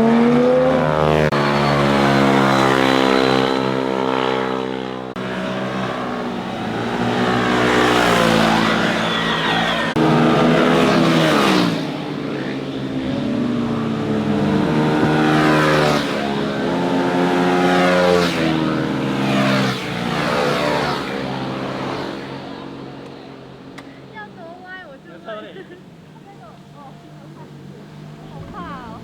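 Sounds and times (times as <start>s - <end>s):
motorcycles revving past: 0.0s - 29.0s.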